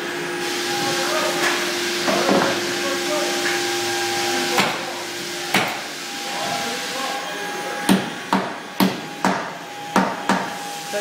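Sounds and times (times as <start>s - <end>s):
floor machine hiss and hum: 0.0s - 11.0s.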